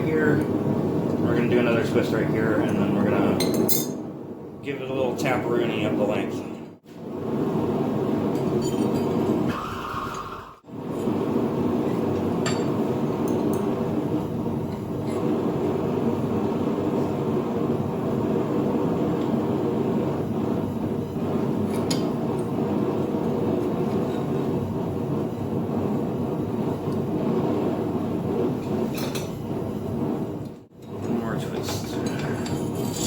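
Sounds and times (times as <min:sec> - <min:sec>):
forge burner roaring: 0:00.0 - 0:33.0.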